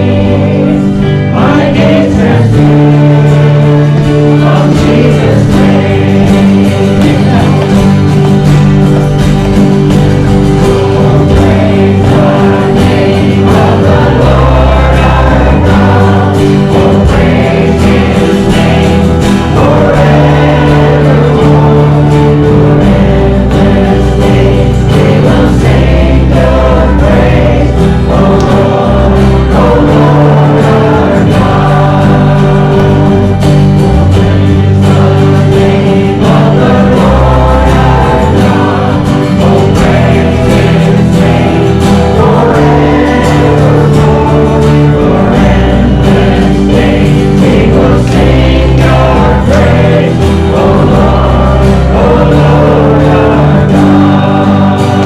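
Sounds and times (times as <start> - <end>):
choir singing worship song: 0.0 - 55.0
instrumental backing with bass: 0.0 - 55.0.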